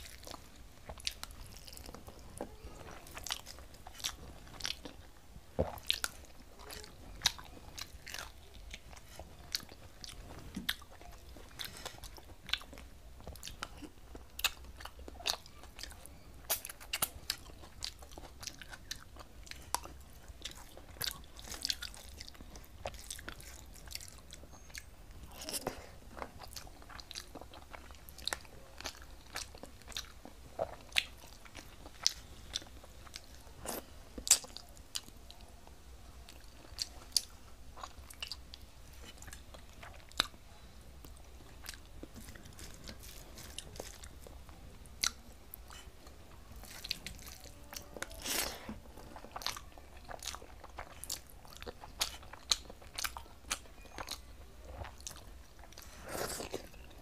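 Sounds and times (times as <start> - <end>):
person chewing food: 0.0 - 35.4, 36.3 - 57.0.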